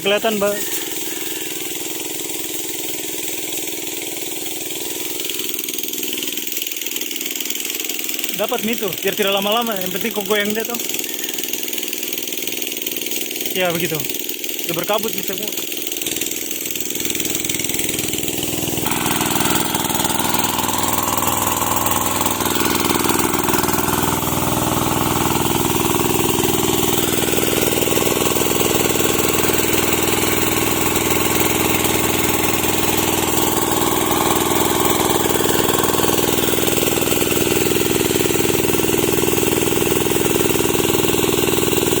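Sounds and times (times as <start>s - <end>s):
engine-powered sprayer running: 0.0s - 42.0s.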